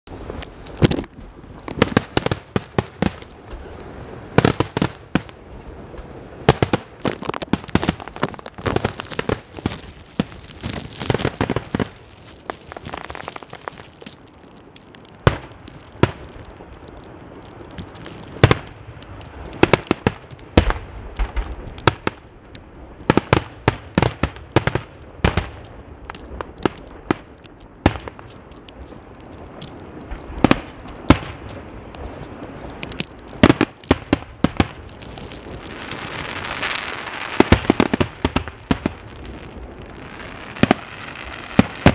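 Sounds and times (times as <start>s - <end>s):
fireworks bursting: 0.1s - 41.9s
fireworks crackling: 0.1s - 41.9s.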